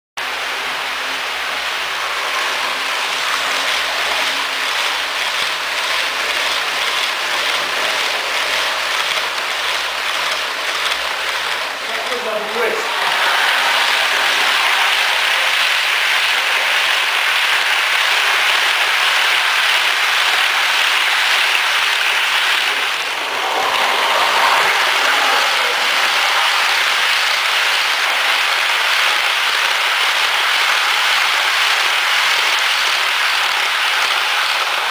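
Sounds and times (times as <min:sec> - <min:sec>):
model train wheels rattling on rails: 0:01.1 - 0:34.9.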